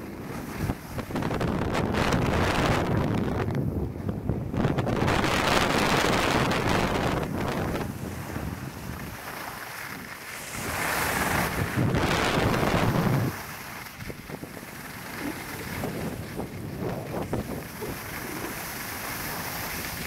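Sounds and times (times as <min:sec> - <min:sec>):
skis sliding on snow: 0:00.0 - 0:02.6, 0:05.0 - 0:20.0
wind rushing over microphone: 0:00.0 - 0:20.0.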